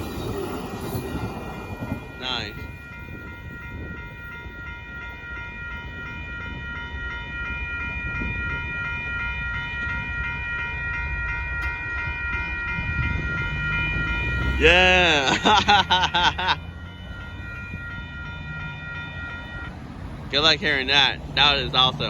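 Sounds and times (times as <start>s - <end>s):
crossing warning bell ringing: 0.0s - 22.0s
train rumbling past: 0.0s - 22.0s.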